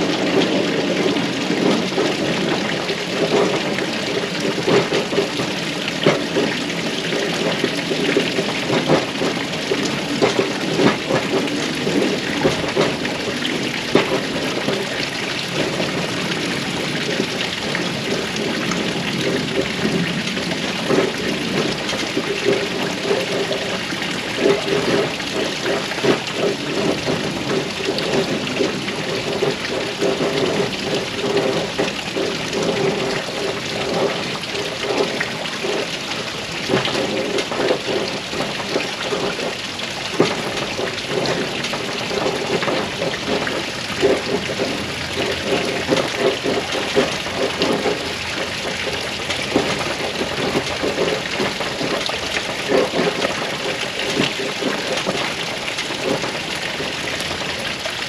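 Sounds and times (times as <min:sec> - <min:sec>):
water splashing: 0:00.0 - 0:58.0.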